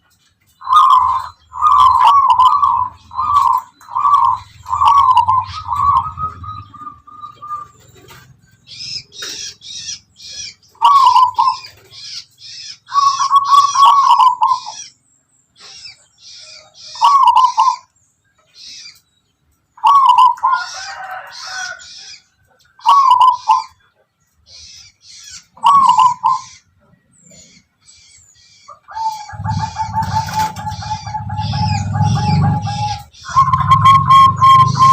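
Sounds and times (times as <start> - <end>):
dove cooing: 0.6 - 12.0, 12.8 - 14.9, 15.6 - 17.9, 19.8 - 24.0, 25.3 - 27.7, 28.7 - 34.9.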